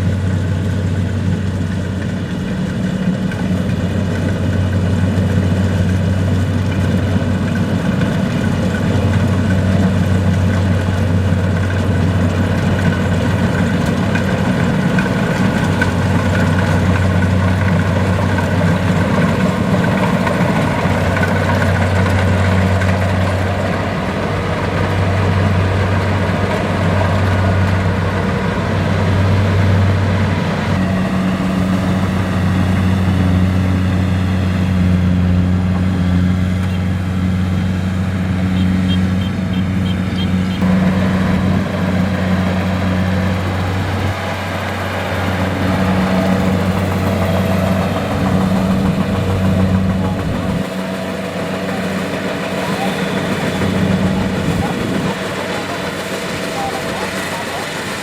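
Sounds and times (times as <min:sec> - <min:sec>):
combine harvester diesel engine droning: 0:00.0 - 0:58.0.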